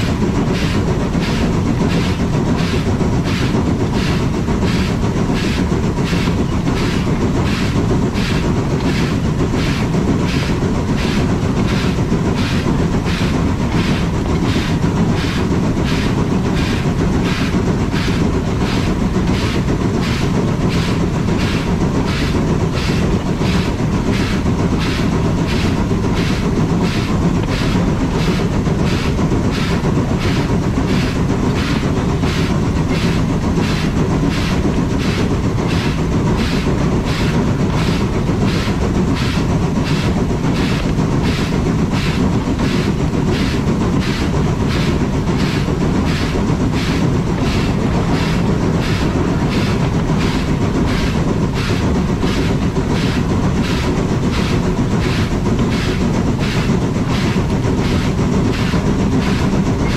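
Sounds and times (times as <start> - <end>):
steam train rumbling: 0.0 - 59.9.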